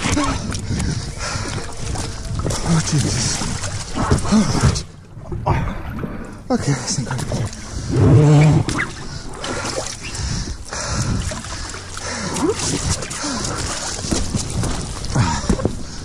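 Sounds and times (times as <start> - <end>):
water splashing against platforms: 0.0 - 16.0.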